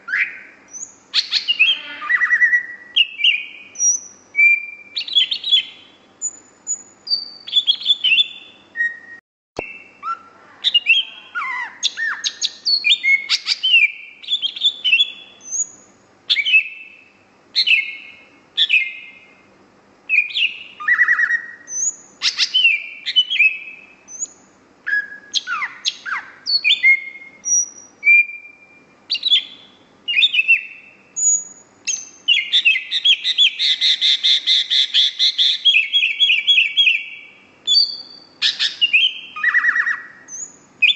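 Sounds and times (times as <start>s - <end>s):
bird singing whistled phrases: 0.0s - 19.3s, 20.1s - 40.9s.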